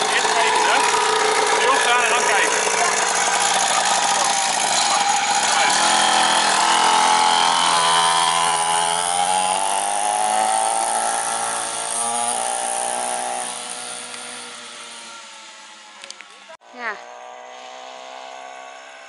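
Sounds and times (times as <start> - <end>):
dirt bike engine buzzing: 0.0 - 19.0.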